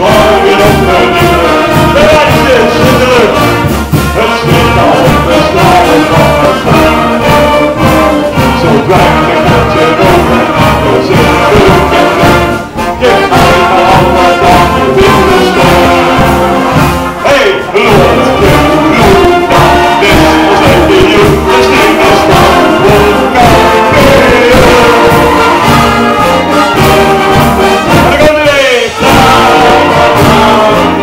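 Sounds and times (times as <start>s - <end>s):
wind band playing carnival music: 0.0s - 31.0s.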